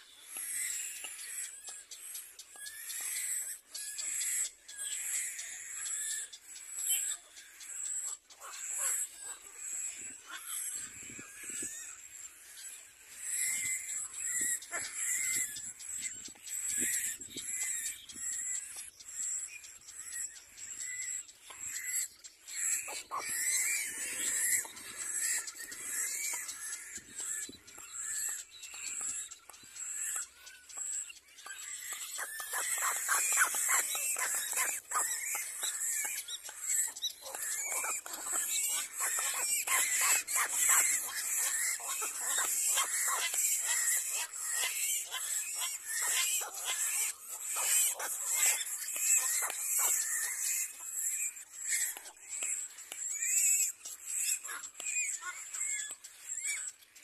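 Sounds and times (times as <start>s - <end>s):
chicks begging calls: 0.0s - 57.0s.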